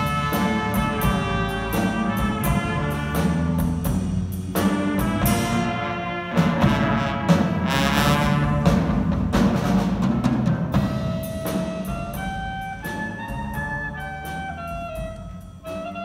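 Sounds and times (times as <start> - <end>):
drum hits: 0.0 - 15.9
jazz band playing: 0.0 - 16.0.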